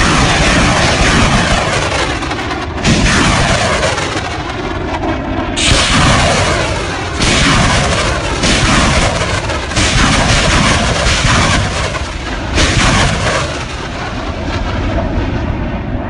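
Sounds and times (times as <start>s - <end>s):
artillery rockets launching: 0.0s - 4.6s, 5.6s - 15.0s.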